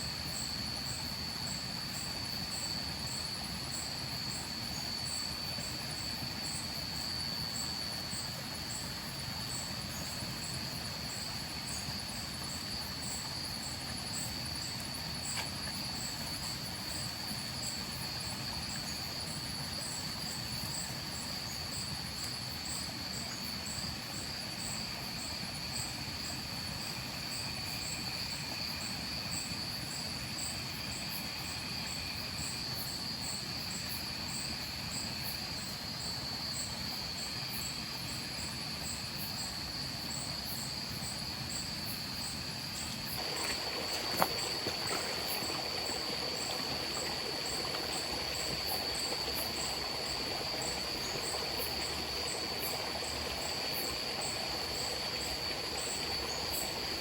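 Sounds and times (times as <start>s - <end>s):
insect chirping: 0.0s - 57.0s
stream water flowing: 0.0s - 57.0s.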